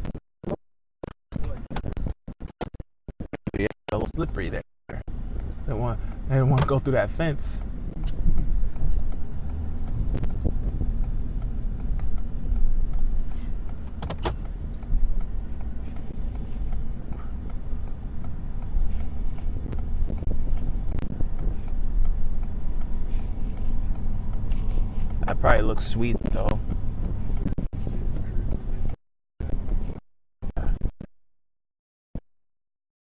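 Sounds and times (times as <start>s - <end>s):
engine and road rumble: 0.0s - 31.1s.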